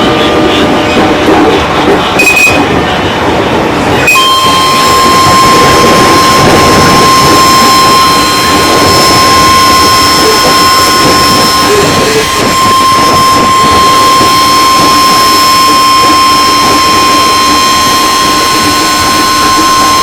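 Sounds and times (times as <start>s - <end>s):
electric train running: 0.0s - 20.0s
high-pitched whine: 0.0s - 20.0s.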